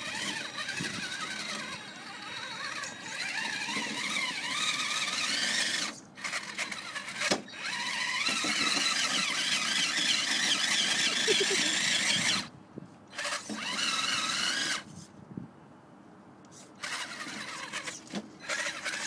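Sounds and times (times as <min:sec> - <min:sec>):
toy car electric motor whining: 0:00.0 - 0:12.5, 0:13.1 - 0:15.1, 0:16.5 - 0:19.0.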